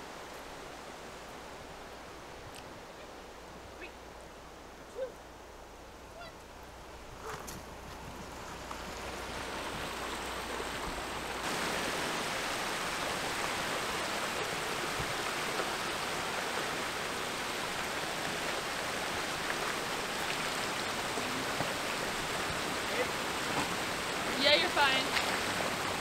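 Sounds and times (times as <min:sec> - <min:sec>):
creek water flowing: 0:00.0 - 0:26.0.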